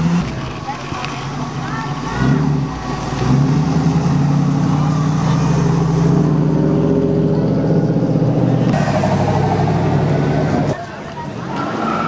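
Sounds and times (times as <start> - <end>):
car engines at low revs: 0.0 - 12.0.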